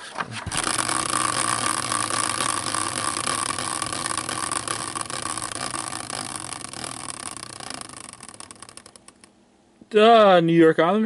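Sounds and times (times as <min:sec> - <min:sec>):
caster wheel spinning whir: 0:00.4 - 0:09.4.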